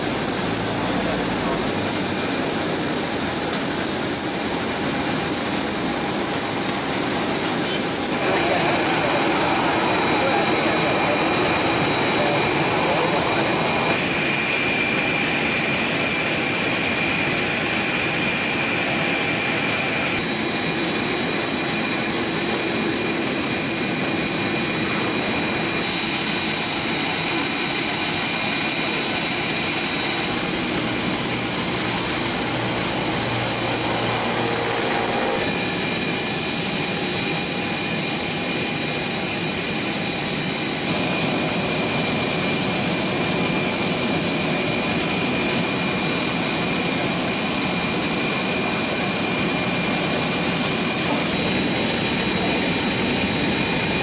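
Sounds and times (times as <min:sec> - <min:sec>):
high turbine whine: 0:00.0 - 0:54.0
jet engines roaring: 0:00.0 - 0:54.0.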